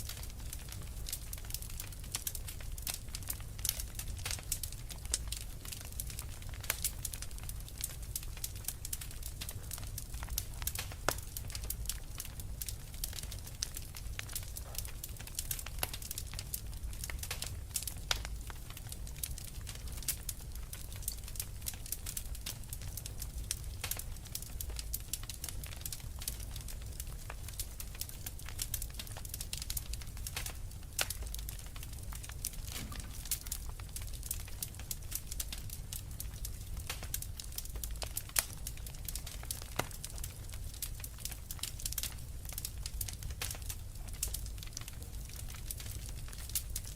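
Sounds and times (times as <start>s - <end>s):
fireplace fire crackling: 0.0s - 46.9s.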